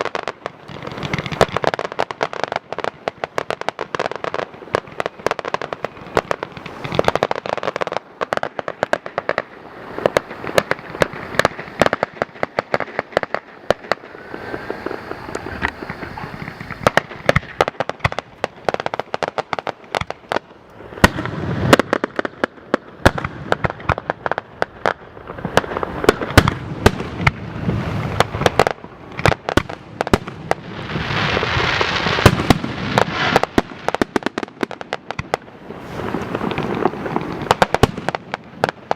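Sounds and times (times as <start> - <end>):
fireworks bangs and cracks: 0.0 - 38.9
fireworks crackling hiss: 0.0 - 38.9.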